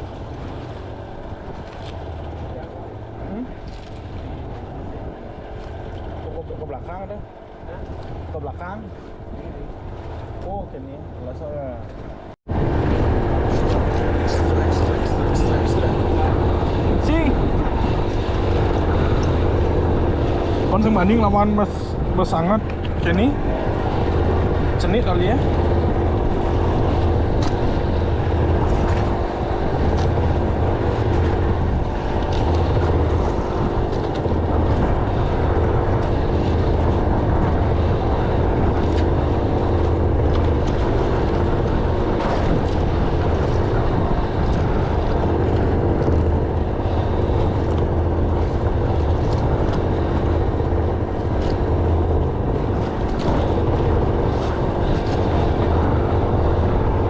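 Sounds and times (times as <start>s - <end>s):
engine low drone: 0.0s - 57.0s
steady hum: 0.0s - 57.0s.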